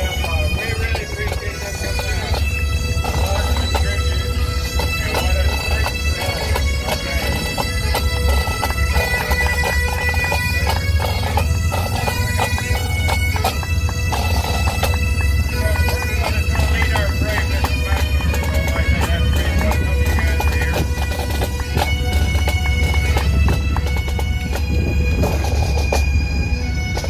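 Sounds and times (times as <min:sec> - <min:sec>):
bagpipes playing over drones: 0:00.0 - 0:27.0
drums beating: 0:00.0 - 0:27.0.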